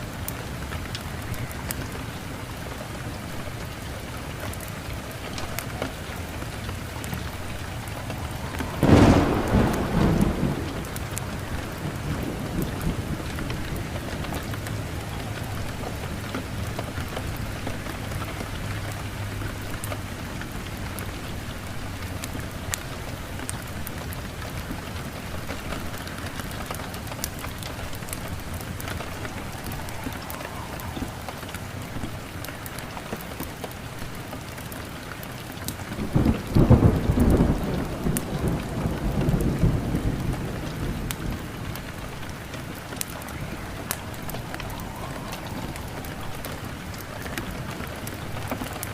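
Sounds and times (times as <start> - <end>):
thunder rumbling: 0.0 - 34.2, 35.8 - 48.9
steady rain: 0.0 - 48.9
sharp crackles: 0.1 - 48.9.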